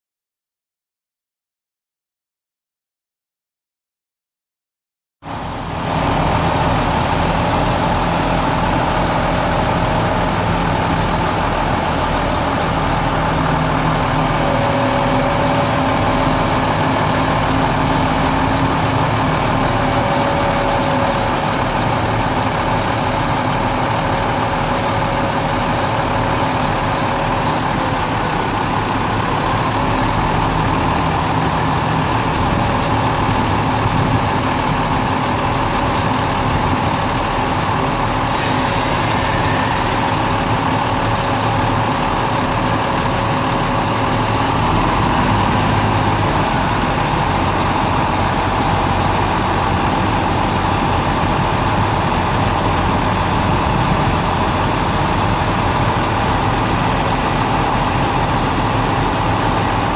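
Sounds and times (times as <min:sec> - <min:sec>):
diesel truck engine idling: 0:05.2 - 0:59.9.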